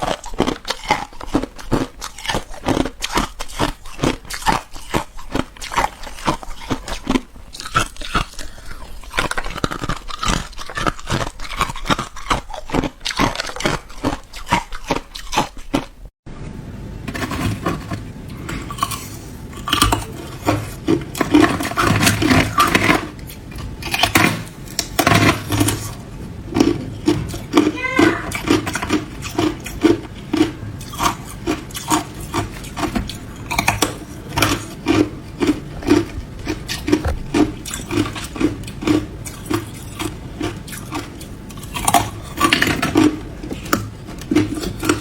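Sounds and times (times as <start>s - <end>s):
ice being chewed: 0.0s - 16.1s, 17.2s - 45.0s.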